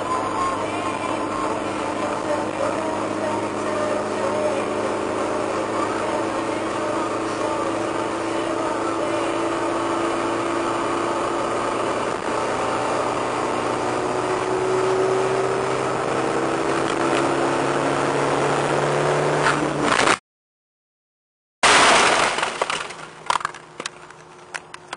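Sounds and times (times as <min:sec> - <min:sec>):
car engine hum: 0:00.0 - 0:20.1, 0:21.7 - 0:24.9
road and tyre noise: 0:00.0 - 0:20.2, 0:21.6 - 0:24.9.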